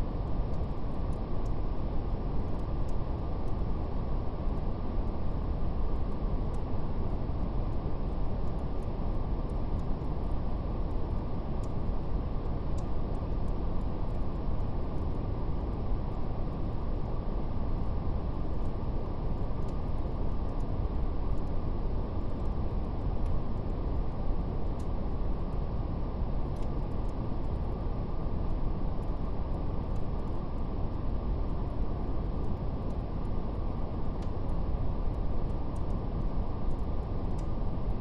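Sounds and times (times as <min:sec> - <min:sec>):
faint fire crackle: 0:00.0 - 0:38.0.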